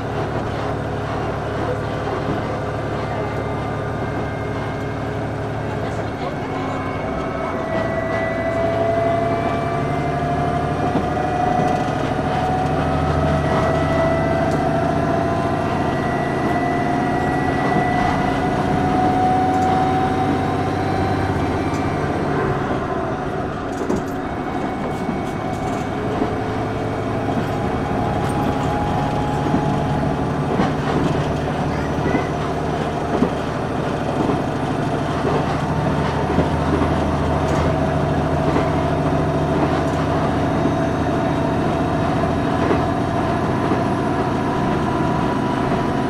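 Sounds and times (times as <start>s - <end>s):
railcar mechanical rumble: 0.0s - 46.0s
whining tone: 2.5s - 46.0s.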